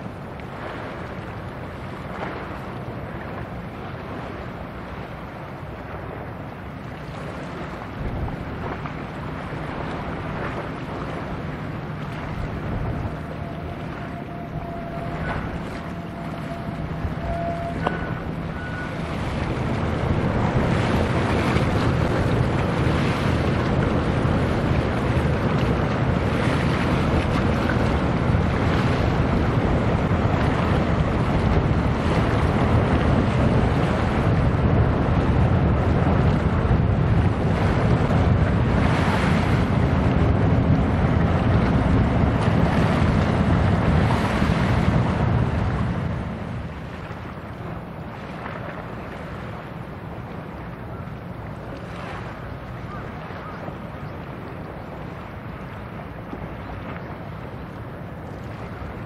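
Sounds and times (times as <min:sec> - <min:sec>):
ship rumble: 0:00.0 - 0:59.0
water: 0:00.0 - 0:59.0
wind buffeting microphone: 0:00.0 - 0:59.0.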